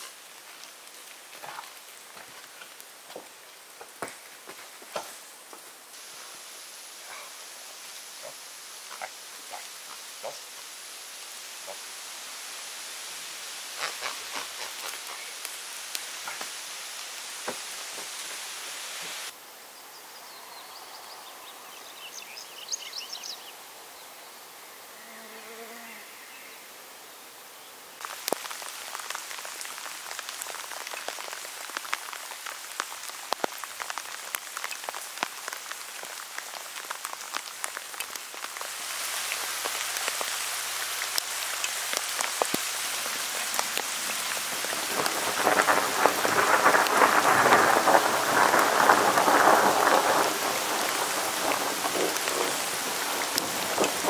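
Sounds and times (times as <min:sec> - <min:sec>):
rain falling: 0:00.0 - 0:19.4, 0:28.0 - 0:54.0.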